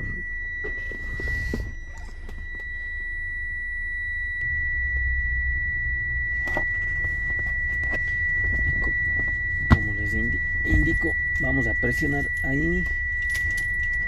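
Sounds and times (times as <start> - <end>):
car warning buzzer tone: 0.0 - 14.0
low rumble: 0.0 - 14.0.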